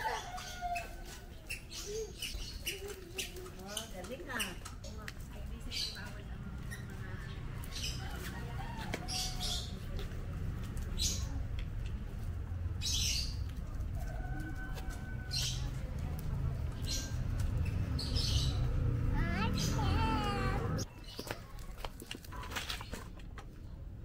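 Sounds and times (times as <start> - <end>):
plastic wheels rolling on concrete: 1.0 - 24.0.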